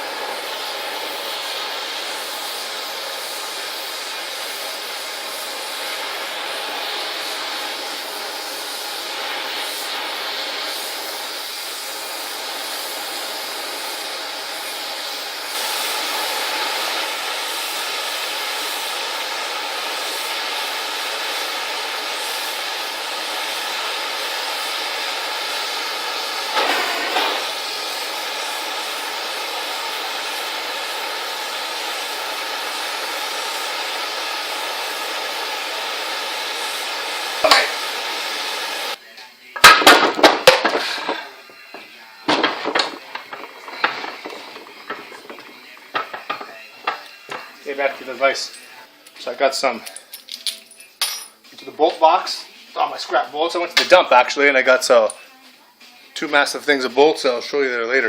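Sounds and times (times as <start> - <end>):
cutting torch flame hissing: 0.0 - 50.1, 51.5 - 58.0
flame crackle: 0.0 - 50.1.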